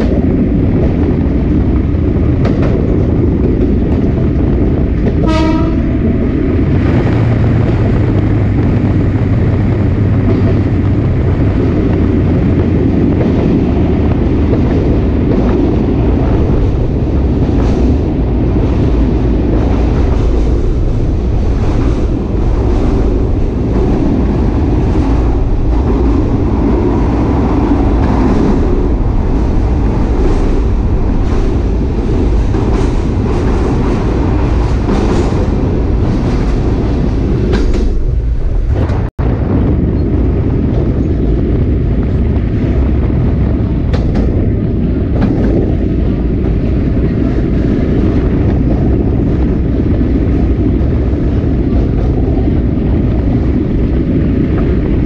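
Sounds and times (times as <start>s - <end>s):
train car rumbling on rails: 0.0s - 55.0s.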